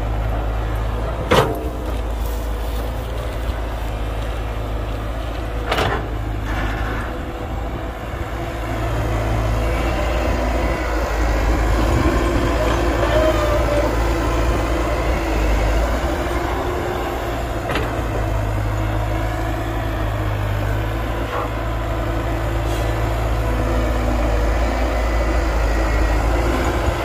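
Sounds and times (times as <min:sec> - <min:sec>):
heavy diesel engines running: 0:00.0 - 0:27.0.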